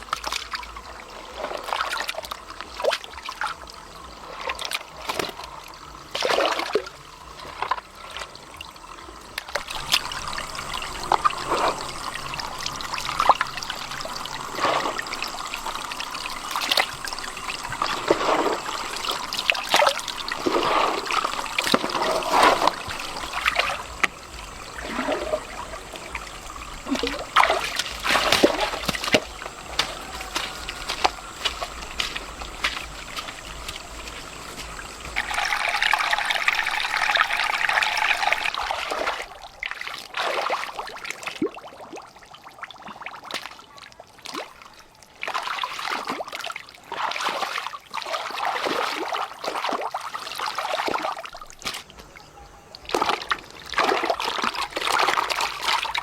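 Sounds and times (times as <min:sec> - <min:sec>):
water splashing: 0:00.0 - 0:56.0
water trickling: 0:00.0 - 0:56.0.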